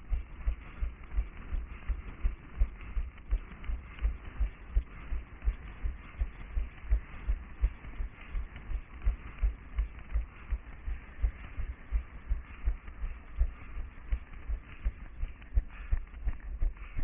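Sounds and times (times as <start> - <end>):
running footsteps on pavement: 0.0 - 17.0.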